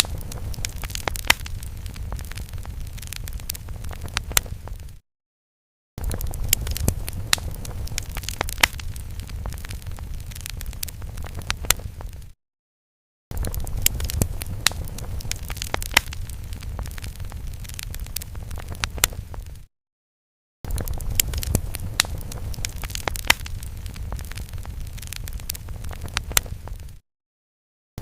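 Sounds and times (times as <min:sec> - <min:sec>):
fire crackling and popping: 0:00.0 - 0:05.0, 0:06.0 - 0:12.4, 0:13.3 - 0:19.7, 0:20.7 - 0:27.0.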